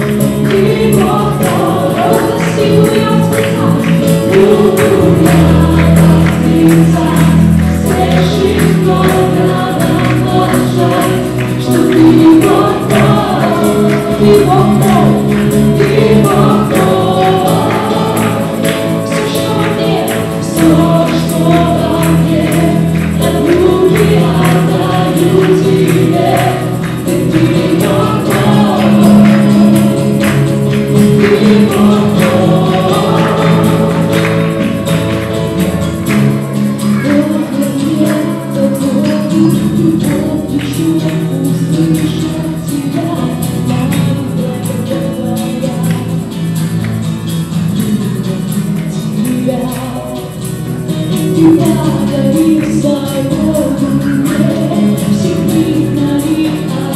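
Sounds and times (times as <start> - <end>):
group singing: 0.0 - 46.3, 47.8 - 56.9
percussive beat: 0.0 - 49.9
acoustic guitar: 0.0 - 56.9
electric bass: 0.0 - 56.9
keyboard: 0.0 - 56.9.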